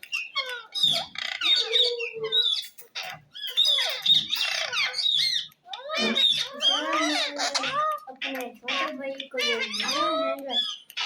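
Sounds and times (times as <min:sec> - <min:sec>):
parrot squawking and chattering: 0:00.0 - 0:11.0.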